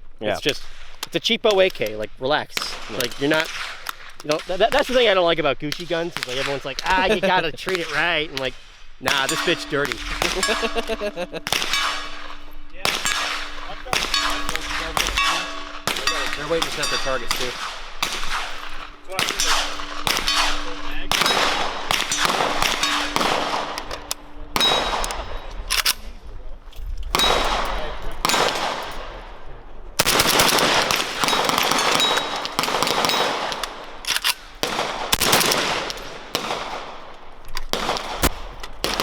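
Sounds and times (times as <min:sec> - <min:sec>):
gunshots echoing: 0:02.6 - 0:26.2, 0:27.1 - 0:39.0.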